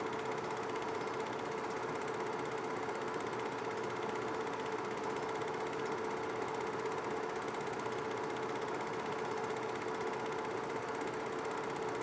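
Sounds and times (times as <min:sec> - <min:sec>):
film projector clattering: 0:00.0 - 0:12.0.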